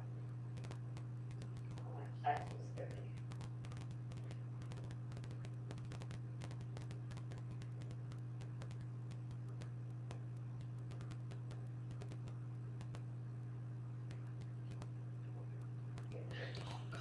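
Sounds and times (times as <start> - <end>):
low electrical hum: 0.0 - 17.0
quick light clicks and taps: 0.5 - 17.0.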